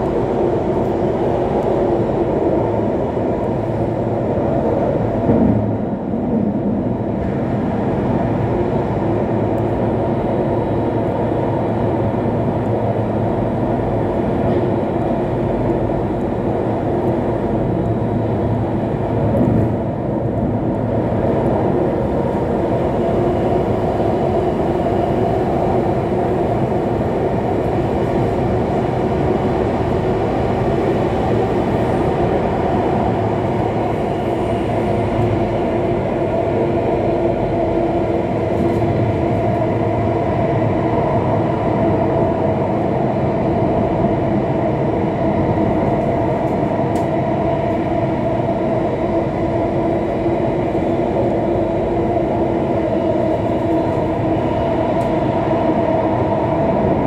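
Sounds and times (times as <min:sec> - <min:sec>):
continuous droning hum: 0:00.0 - 0:57.0
metro train rumbling in tunnel: 0:00.0 - 0:57.0.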